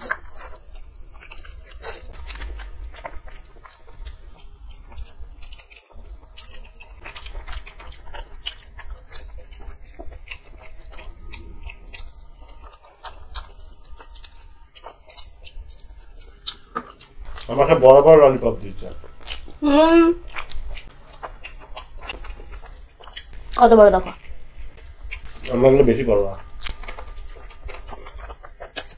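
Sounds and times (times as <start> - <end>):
people chewing crunchy chicken: 0.0 - 28.9.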